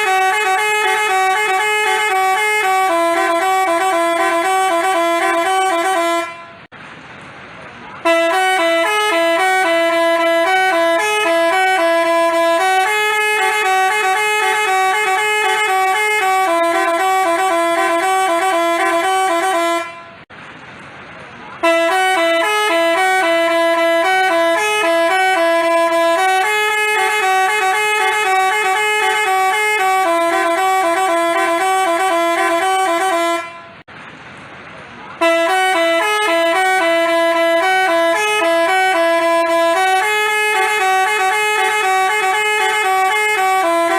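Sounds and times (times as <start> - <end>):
multi-tone bus horn melody: 0.0 - 6.7, 7.9 - 20.3, 21.6 - 33.9, 35.2 - 43.9.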